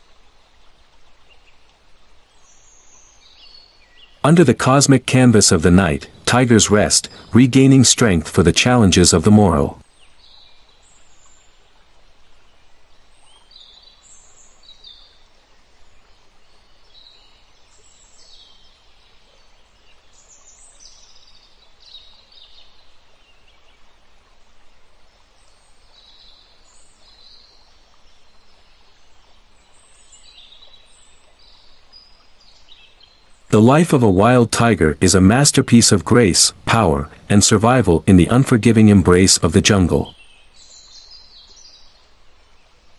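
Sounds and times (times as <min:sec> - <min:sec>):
steady low hiss: 0:00.0 - 0:42.9.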